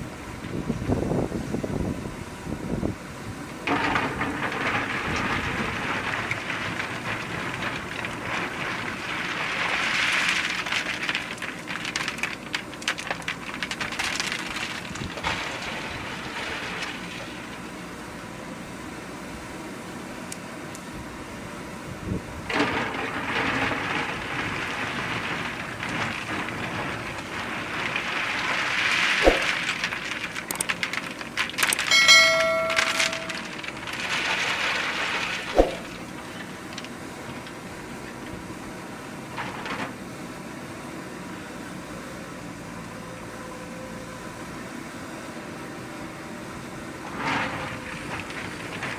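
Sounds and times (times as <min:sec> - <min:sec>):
backhoe loader rushing and scraping: 0:00.0 - 0:48.9.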